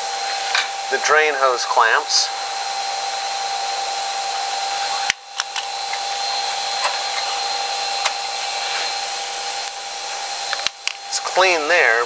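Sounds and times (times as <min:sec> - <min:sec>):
machine whir with high whine: 0:00.0 - 0:12.0.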